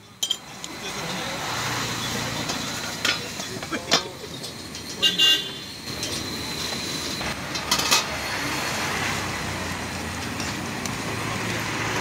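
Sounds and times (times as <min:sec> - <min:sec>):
busy street noise: 0:00.0 - 0:12.0.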